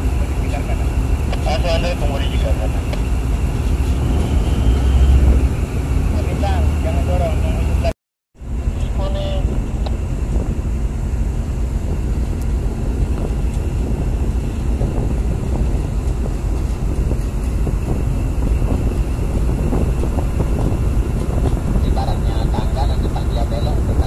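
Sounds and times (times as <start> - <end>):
diesel engine low rumble: 0.0 - 24.0.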